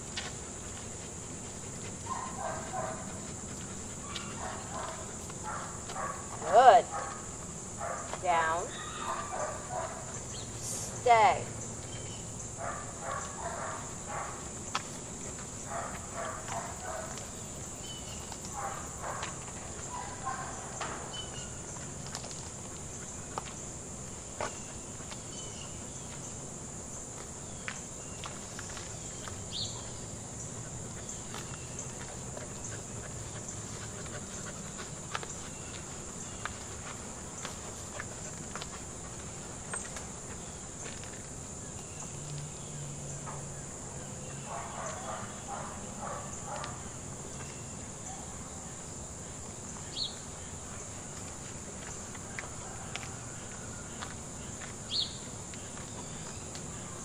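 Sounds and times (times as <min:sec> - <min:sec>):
footsteps on pavement: 0:00.0 - 0:10.4, 0:11.4 - 0:42.7, 0:44.4 - 0:48.0, 0:49.4 - 0:57.0
insect chorus drone: 0:00.0 - 0:57.0.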